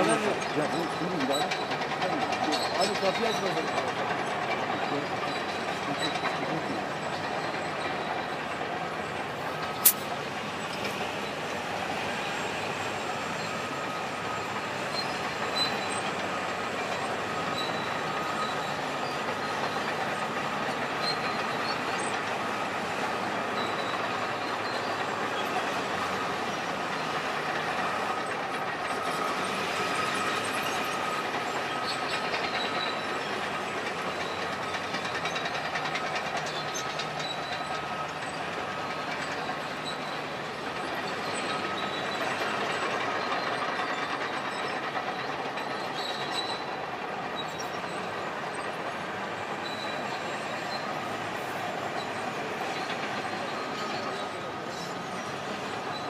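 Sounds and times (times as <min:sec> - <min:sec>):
steady mechanical noise: 0:00.0 - 0:56.0.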